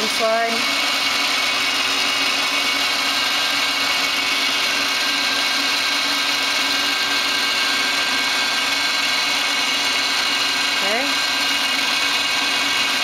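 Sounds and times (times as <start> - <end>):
lathe motors humming and whining: 0.0 - 13.0.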